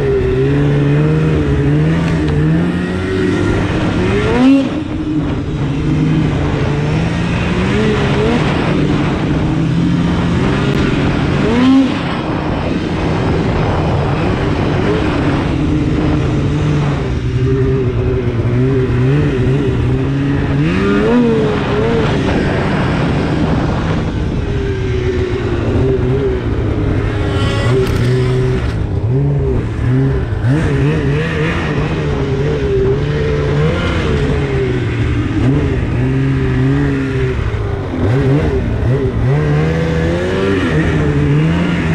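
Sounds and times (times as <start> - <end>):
snowmobile engine revving: 0.0 - 41.9.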